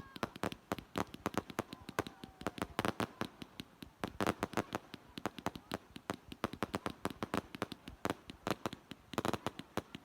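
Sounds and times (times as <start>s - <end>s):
fireworks banging and cracking: 0.0s - 10.0s.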